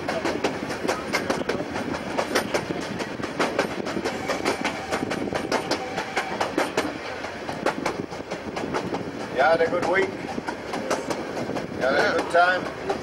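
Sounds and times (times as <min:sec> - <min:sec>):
miniature train wheels clicking: 0:00.0 - 0:13.0
train rattle and rumble: 0:00.0 - 0:13.0.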